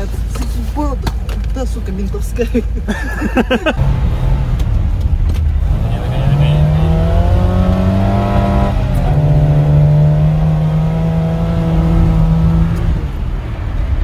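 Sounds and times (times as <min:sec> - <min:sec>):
car engine under hard throttle: 0:00.0 - 0:14.0.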